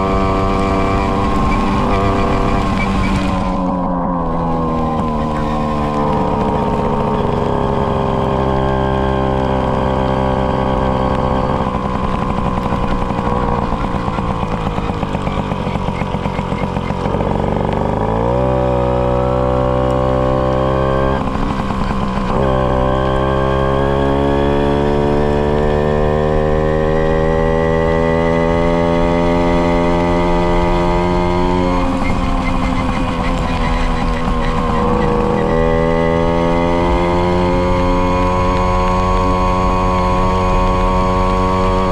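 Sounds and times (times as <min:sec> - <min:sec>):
moped two-stroke engine running: 0:00.0 - 0:41.9.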